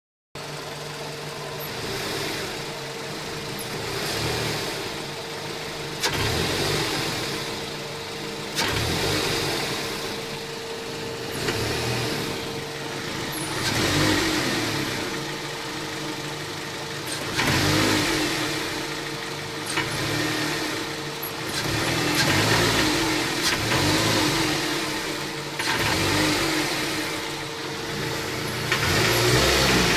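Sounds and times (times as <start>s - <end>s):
car engine revving in blips: 0.4s - 29.9s.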